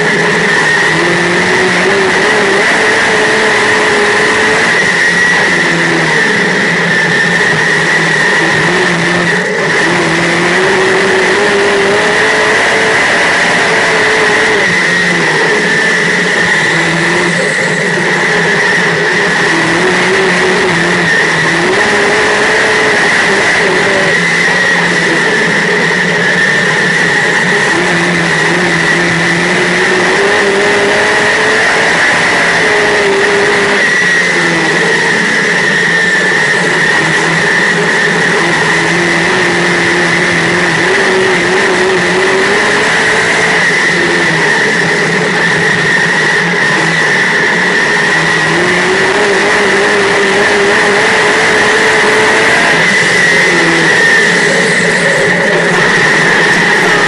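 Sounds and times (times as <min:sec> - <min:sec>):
race car engine: 0:00.0 - 0:57.0
steady high-pitched whine: 0:00.0 - 0:57.0.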